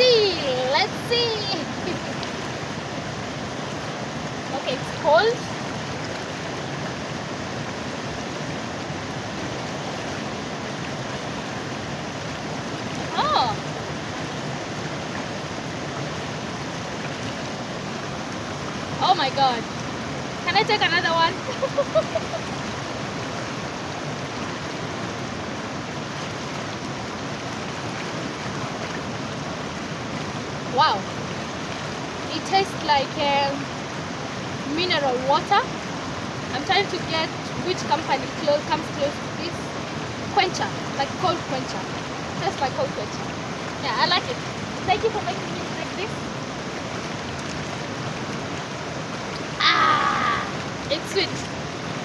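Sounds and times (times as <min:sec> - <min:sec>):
river flowing: 0:00.0 - 0:52.0.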